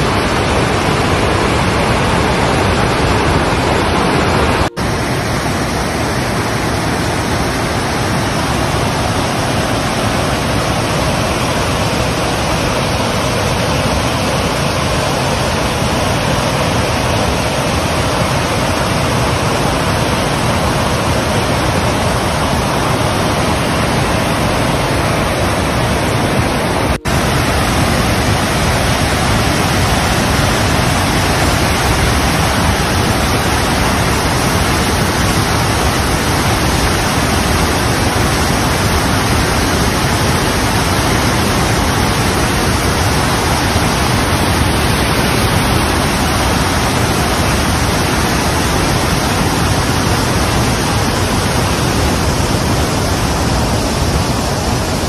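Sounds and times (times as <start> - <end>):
floodwater rushing down spillway: 0.0 - 55.0.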